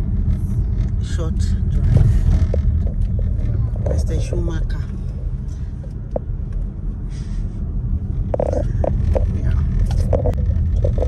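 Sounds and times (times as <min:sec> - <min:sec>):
car cabin road and engine noise: 0:00.0 - 0:11.0.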